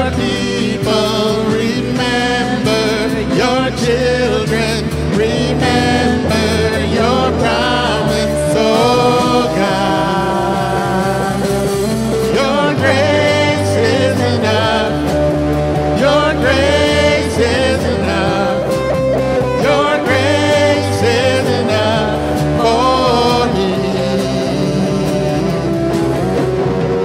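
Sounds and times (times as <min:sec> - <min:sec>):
person singing: 0:00.0 - 0:26.8
drums: 0:00.0 - 0:27.0
electric guitar: 0:00.0 - 0:27.0
low bass notes: 0:00.0 - 0:27.0.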